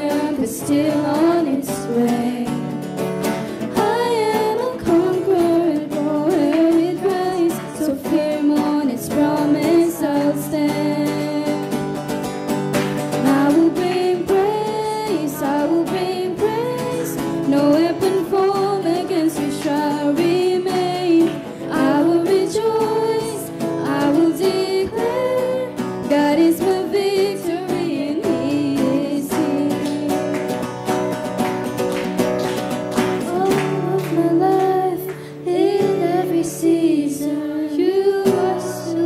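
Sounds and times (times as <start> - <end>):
women singing worship song: 0.0 - 2.8, 3.6 - 11.7, 13.2 - 30.5, 33.2 - 39.0
strummed acoustic guitar: 0.0 - 39.0.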